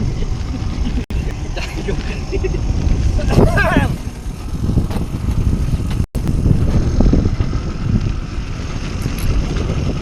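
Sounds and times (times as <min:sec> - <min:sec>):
boat motor rumble: 0:00.0 - 0:10.0
wind buffeting microphone: 0:00.0 - 0:10.0.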